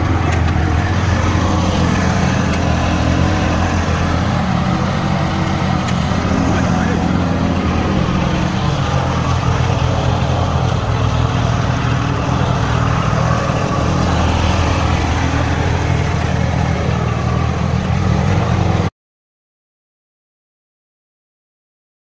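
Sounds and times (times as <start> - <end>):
mower engine running: 0.0 - 18.9.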